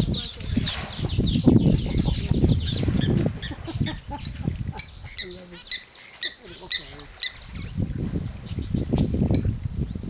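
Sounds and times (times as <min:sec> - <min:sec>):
wind buffeting microphone: 0:00.0 - 0:05.7, 0:06.4 - 0:10.0
birds chirping: 0:00.0 - 0:10.0.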